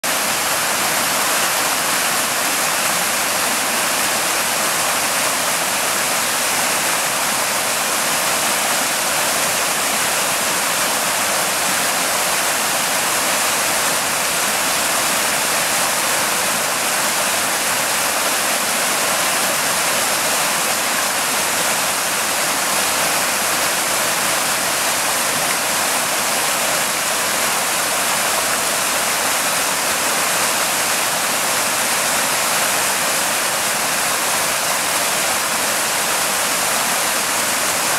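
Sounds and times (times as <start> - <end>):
creek water rushing over rocks: 0.0 - 37.9.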